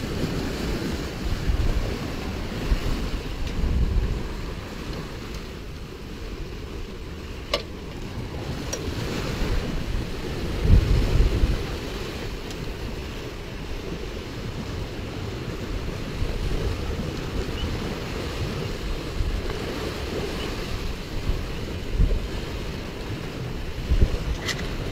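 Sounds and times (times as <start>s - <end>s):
choppy sea water slapping: 0.0s - 24.9s
wind buffeting microphone: 0.0s - 24.9s.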